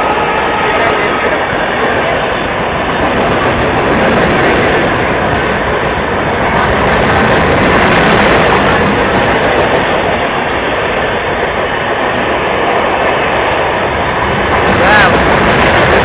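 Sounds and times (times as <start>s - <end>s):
train rushing past on rails: 0.0s - 16.0s.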